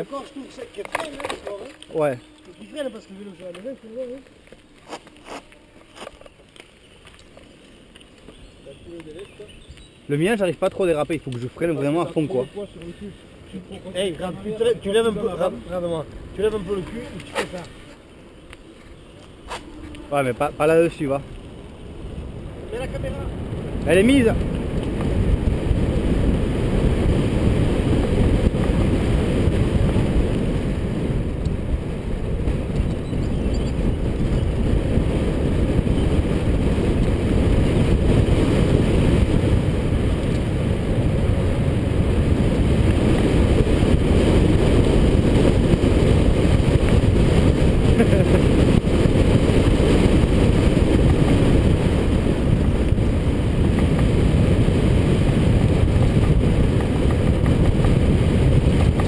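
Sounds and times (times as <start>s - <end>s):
tyre noise on asphalt: 0.0s - 59.0s
wind rumble on microphone: 0.0s - 59.0s.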